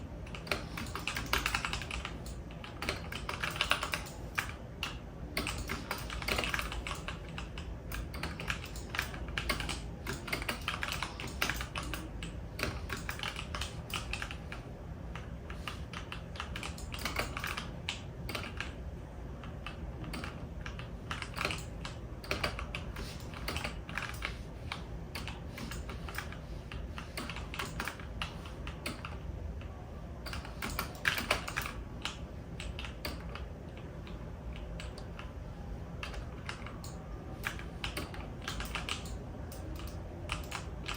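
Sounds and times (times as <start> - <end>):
typing on computer keyboard: 0.0 - 18.8, 19.4 - 35.4, 36.0 - 40.9.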